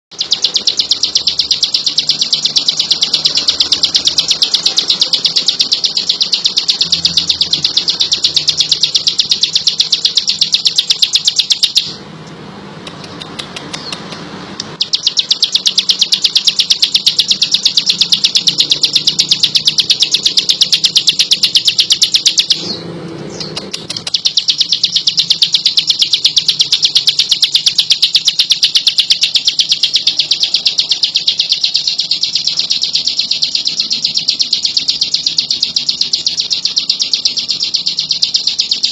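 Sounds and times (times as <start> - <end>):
bird chattering high notes: 0.1 - 12.0, 14.8 - 38.9.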